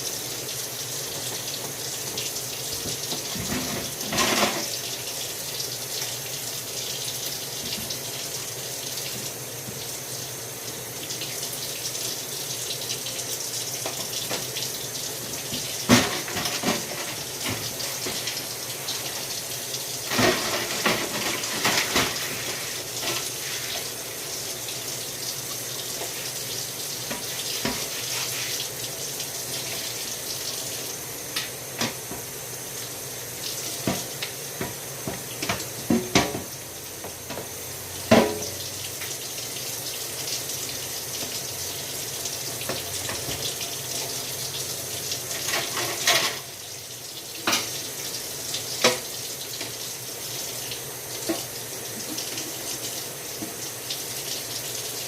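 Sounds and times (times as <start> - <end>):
tap water running into sink: 0.0 - 55.0.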